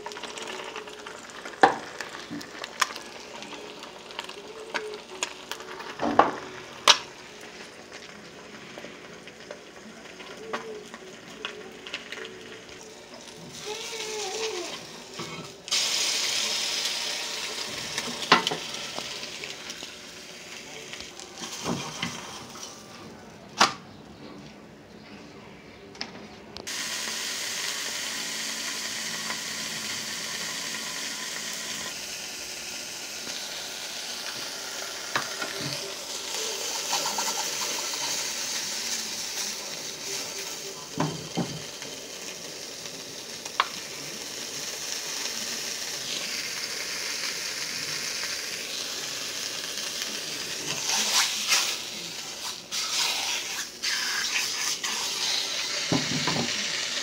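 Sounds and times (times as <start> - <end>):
meat sizzling in a frying pan: 0.0 - 23.0, 26.7 - 57.0.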